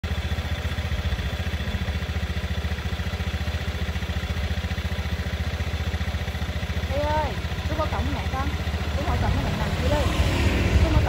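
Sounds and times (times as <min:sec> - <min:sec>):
motor scooter engine idling: 0:00.0 - 0:11.0.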